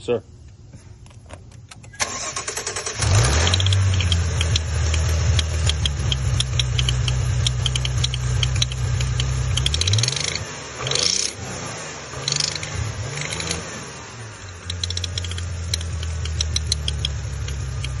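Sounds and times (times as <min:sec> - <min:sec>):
car engine idling: 0:01.4 - 0:18.0
engine starter cranking: 0:01.7 - 0:11.4, 0:12.2 - 0:13.7, 0:14.4 - 0:18.0
engine ticking: 0:01.8 - 0:11.4, 0:12.2 - 0:18.0.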